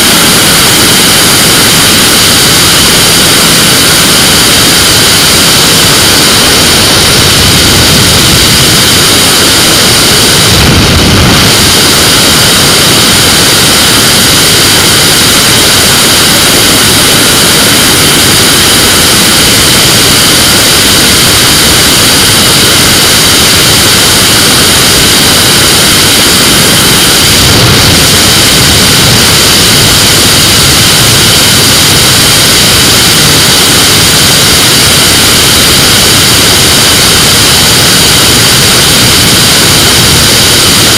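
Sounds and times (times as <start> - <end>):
microlight engine and propeller droning: 0.0 - 40.9
wind noise on microphone: 0.0 - 40.9.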